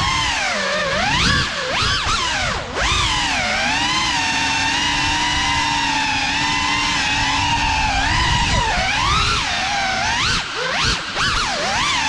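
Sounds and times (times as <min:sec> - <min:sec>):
drone motors and propellers whining: 0:00.0 - 0:12.0.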